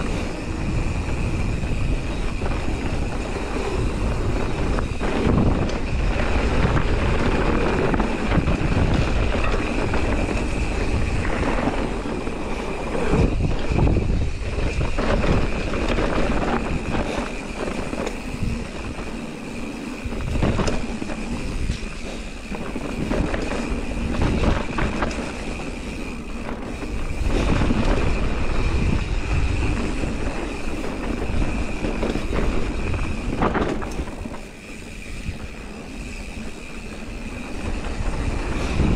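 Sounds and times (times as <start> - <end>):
bike knocking and rattling: 0.0 - 38.9
bike tyres rolling over dirt: 0.0 - 38.9
wind rumble on microphone: 0.0 - 38.9.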